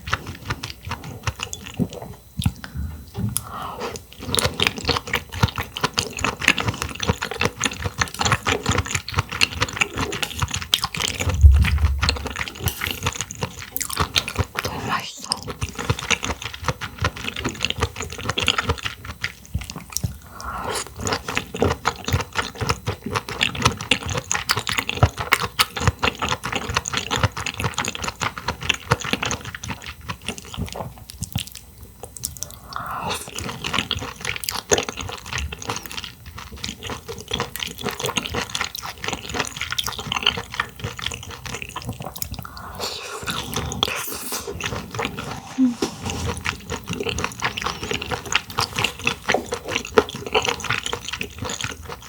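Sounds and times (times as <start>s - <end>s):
wet chewing and slurping: 0.0s - 52.0s.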